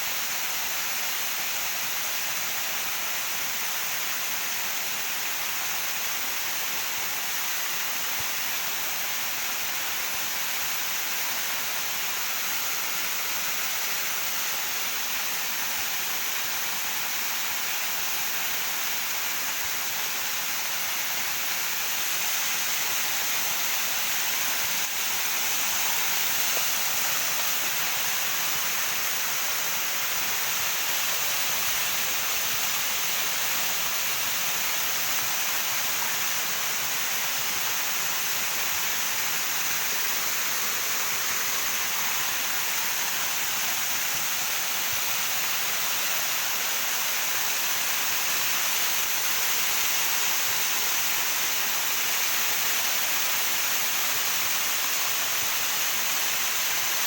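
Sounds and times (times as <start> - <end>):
waterfall rushing: 5.0 - 57.0.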